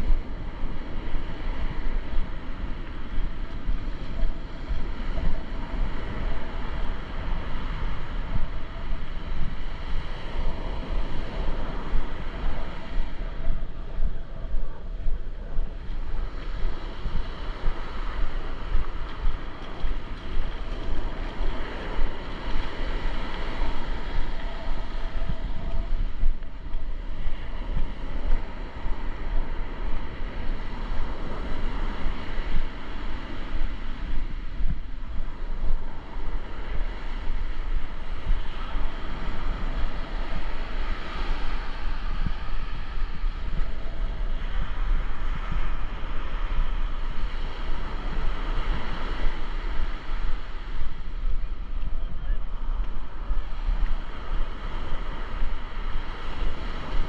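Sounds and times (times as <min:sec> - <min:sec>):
ocean surf washing onto beach: 0:00.0 - 0:57.0
wind buffeting microphone: 0:00.0 - 0:57.0.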